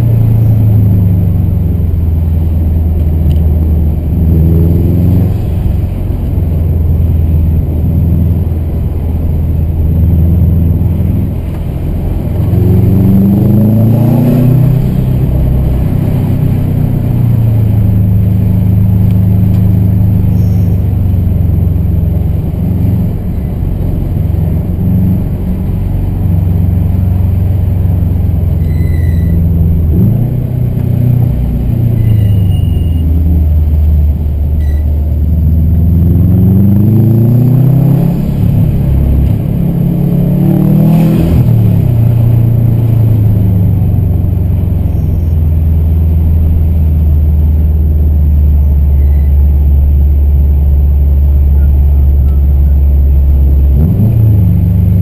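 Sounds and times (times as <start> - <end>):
engine revving: 0.0 - 9.1, 9.7 - 55.0
car engine running: 0.0 - 55.0.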